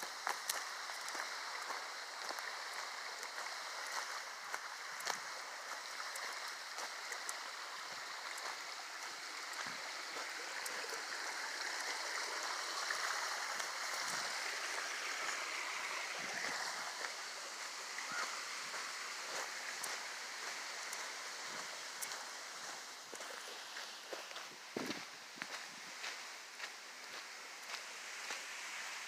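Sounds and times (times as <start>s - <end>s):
footsteps on dirt trail: 0.0s - 29.0s
running water rushing: 0.0s - 29.0s.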